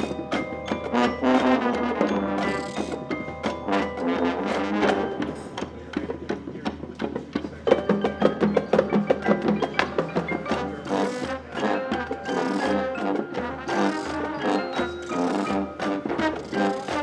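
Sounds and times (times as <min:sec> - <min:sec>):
mallet percussion runs: 0:00.0 - 0:17.0
marching band playing: 0:00.0 - 0:17.0.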